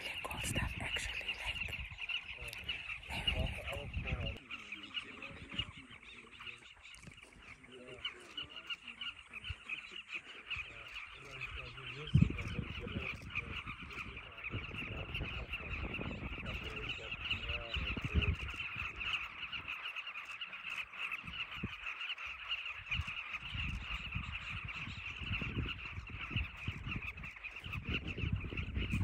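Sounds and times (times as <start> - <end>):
bird colony chattering: 0.0 - 29.0.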